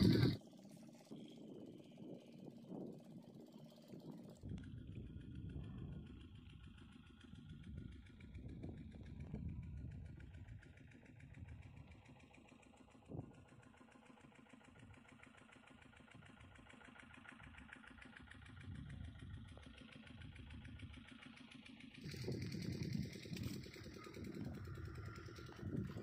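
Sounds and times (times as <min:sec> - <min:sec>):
faint distant engine running: 0:00.0 - 0:26.0.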